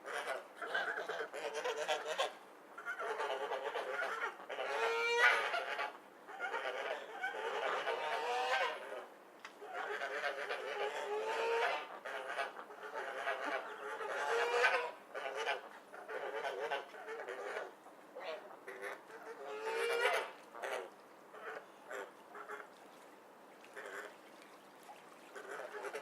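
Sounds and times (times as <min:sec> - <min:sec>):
ducks quacking and squawking: 0:00.1 - 0:09.0, 0:09.6 - 0:22.7, 0:25.2 - 0:26.0.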